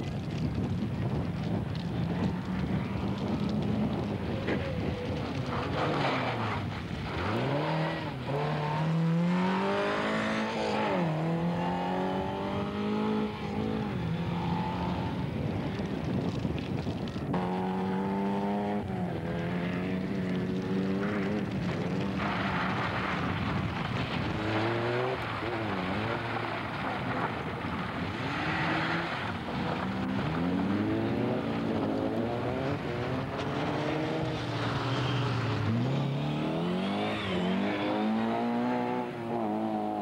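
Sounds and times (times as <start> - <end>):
rally car engines revving: 1.8 - 15.8, 17.2 - 40.0.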